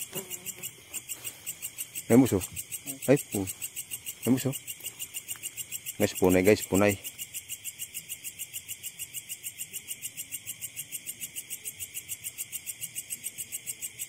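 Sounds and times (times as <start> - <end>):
night insects chirping: 0.0 - 14.0.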